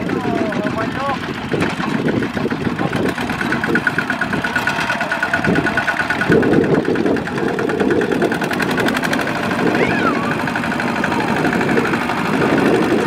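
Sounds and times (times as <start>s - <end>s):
diesel engine knocking: 0.0s - 13.0s.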